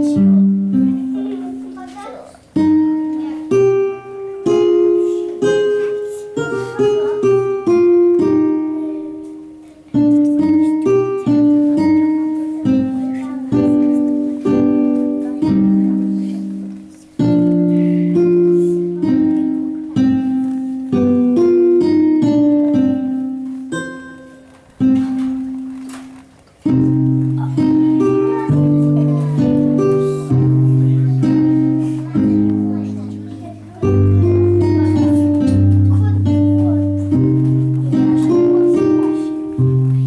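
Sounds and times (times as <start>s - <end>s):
plucked guitar melody: 0.0s - 40.0s.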